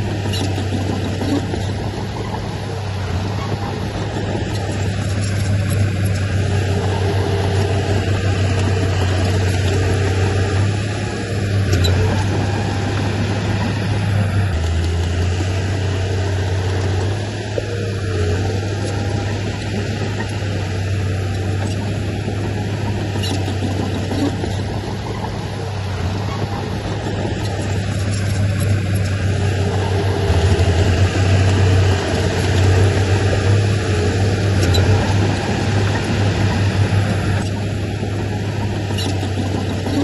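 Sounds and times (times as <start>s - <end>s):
diesel engine deep hum: 0.0s - 40.0s.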